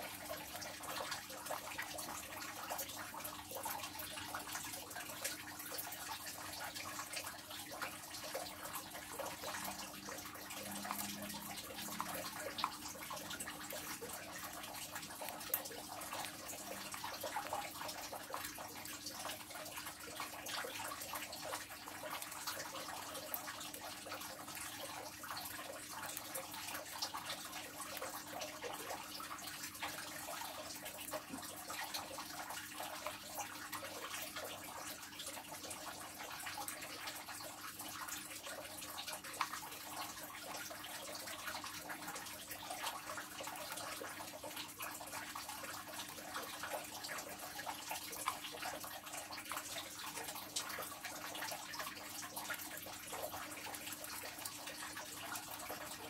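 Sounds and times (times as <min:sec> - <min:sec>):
faint steady hum: 0:00.0 - 0:56.0
running water splashing: 0:00.0 - 0:56.0.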